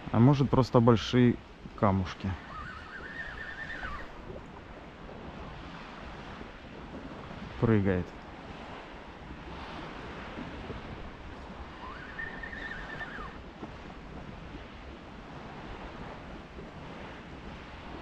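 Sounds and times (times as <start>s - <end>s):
calm sea washing: 0.0s - 18.0s
wind on microphone: 0.0s - 18.0s.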